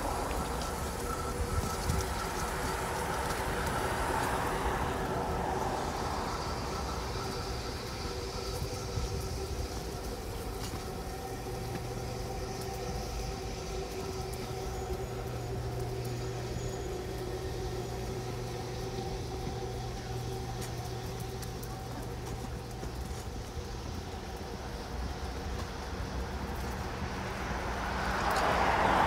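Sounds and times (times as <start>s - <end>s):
engine-like drone: 0.0s - 29.0s.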